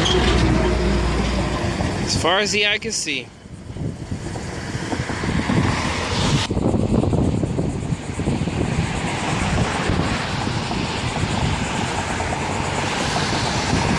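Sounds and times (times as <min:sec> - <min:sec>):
train rumbling past: 0:00.0 - 0:13.9.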